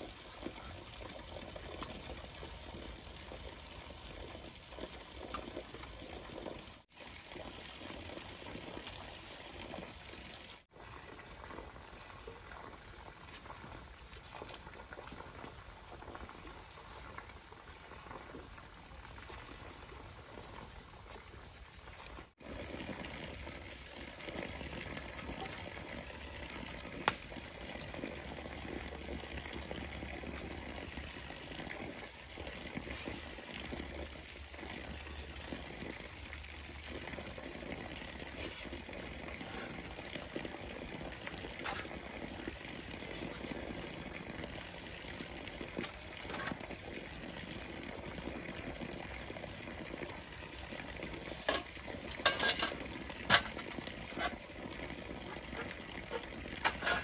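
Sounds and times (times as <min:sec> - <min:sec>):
bubbling running water: 0:00.0 - 0:57.0.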